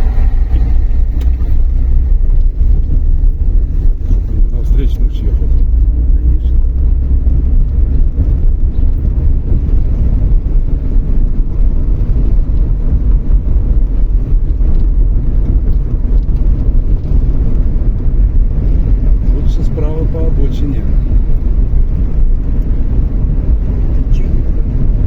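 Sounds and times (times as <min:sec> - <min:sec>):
car tyres rumbling on gritty road: 0:00.0 - 0:25.0.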